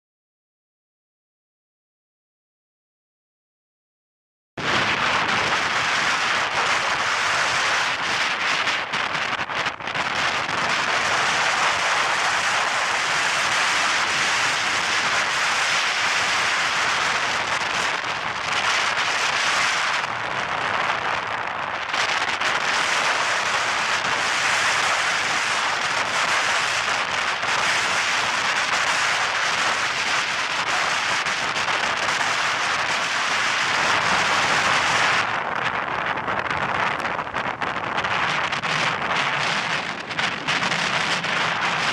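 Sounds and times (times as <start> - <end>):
strong wind: 4.6 - 41.9
surf crashing on shore: 4.6 - 41.9.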